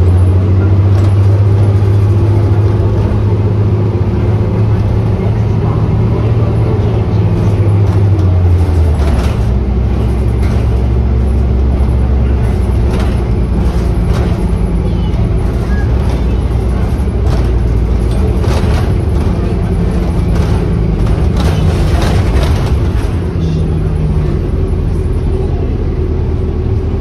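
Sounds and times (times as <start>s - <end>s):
bus body rattles and knocks: 0.0s - 27.0s
bus drivetrain hum: 0.0s - 27.0s.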